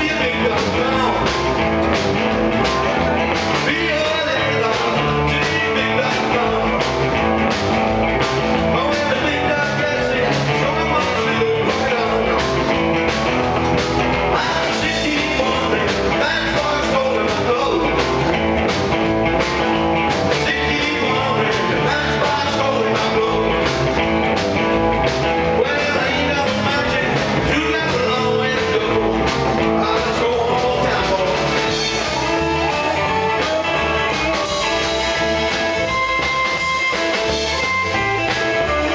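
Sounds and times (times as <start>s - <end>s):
man singing: 0.0s - 2.0s, 2.6s - 7.5s, 8.4s - 12.8s, 14.2s - 18.4s, 20.1s - 24.1s, 25.3s - 38.9s
rock and roll band playing: 0.0s - 38.9s.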